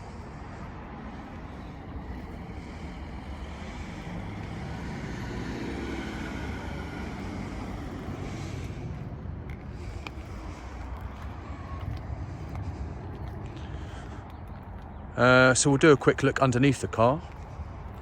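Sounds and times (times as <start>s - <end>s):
road traffic rumble: 0.0s - 18.0s
vehicle passing by: 0.0s - 18.0s.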